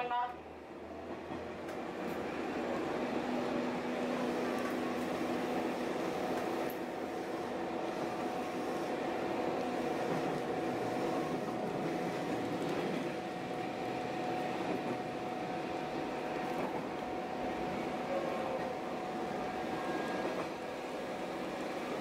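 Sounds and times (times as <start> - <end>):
railcar engine drone: 0.0 - 22.0
train rolling noise: 0.0 - 22.0.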